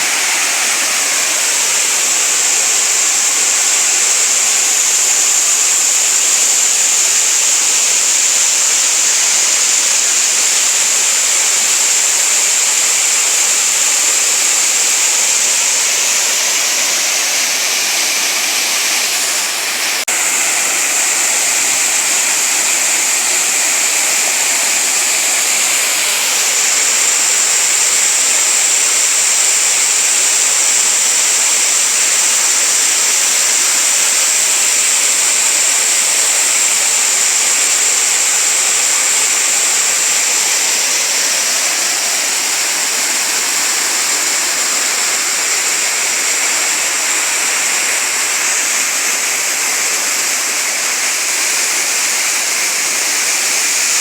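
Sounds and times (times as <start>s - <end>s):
waterfall over rocks: 0.0s - 54.0s.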